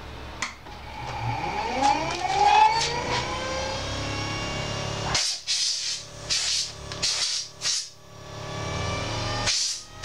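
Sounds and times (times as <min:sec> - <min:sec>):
bench grinder whine: 0:00.7 - 0:05.2, 0:06.0 - 0:10.0.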